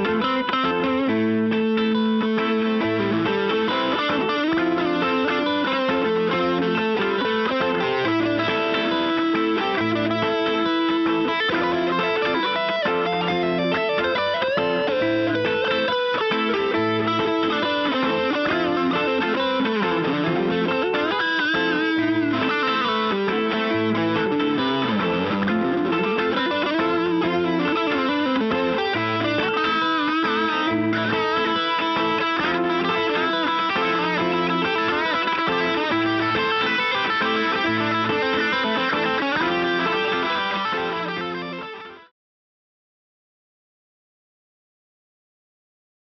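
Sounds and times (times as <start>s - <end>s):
distorted electric guitar lead: 0.0s - 42.1s.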